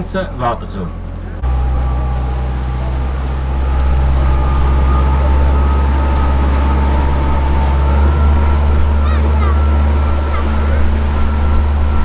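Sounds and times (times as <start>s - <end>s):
boat motor rumbling: 0.0s - 12.0s
high two-note whine: 0.9s - 12.0s.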